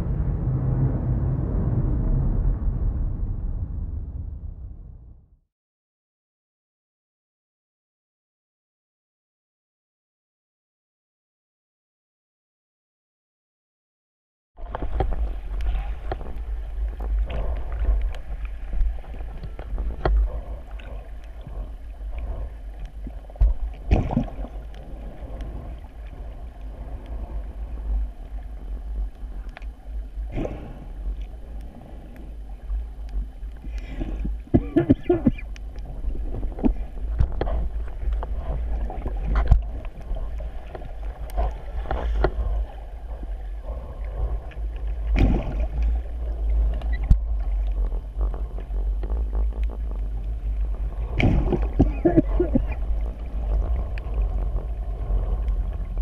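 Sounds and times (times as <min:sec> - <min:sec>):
low underwater rumble: 0:00.0 - 0:05.5, 0:14.6 - 0:56.0.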